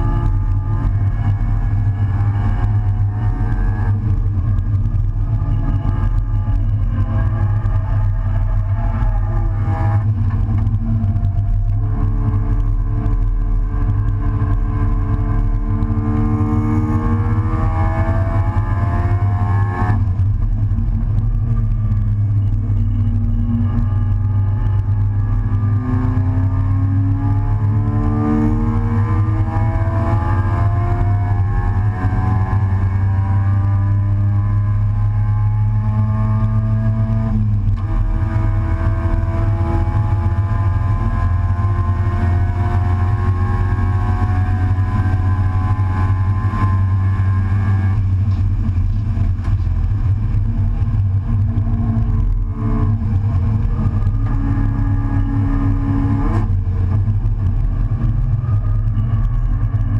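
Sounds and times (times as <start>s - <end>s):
heavy low rumble: 0.0s - 59.9s
race car engine revving: 0.0s - 59.9s.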